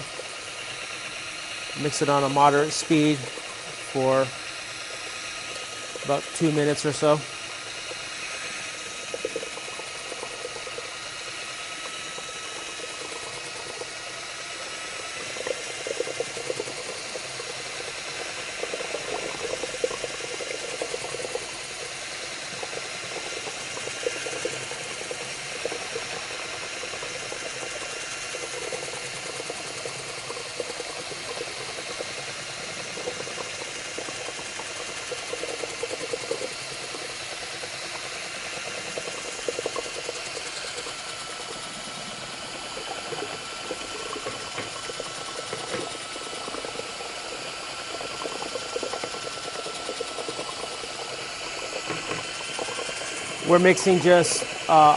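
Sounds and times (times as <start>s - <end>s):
drill motor whine: 0.0s - 54.9s
liquid churning: 0.0s - 54.9s.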